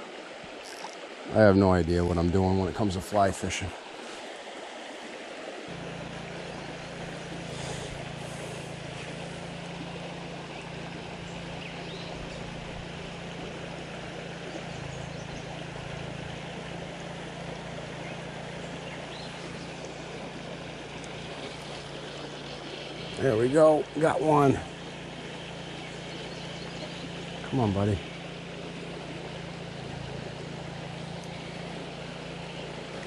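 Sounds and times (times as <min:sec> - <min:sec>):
creek water rushing over rocks: 0:00.0 - 0:33.0
low steady hum: 0:00.0 - 0:33.0.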